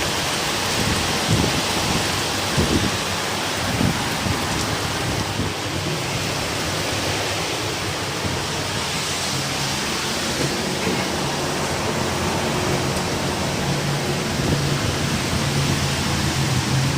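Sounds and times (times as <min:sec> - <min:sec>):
heavy rain with strong wind: 0:00.0 - 0:16.9.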